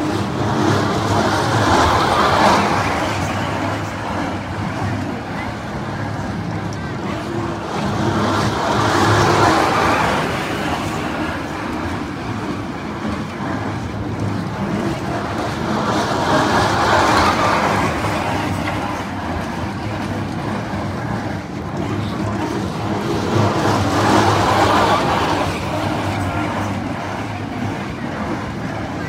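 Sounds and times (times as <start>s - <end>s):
train wheels rolling on rails: 0.0s - 29.0s.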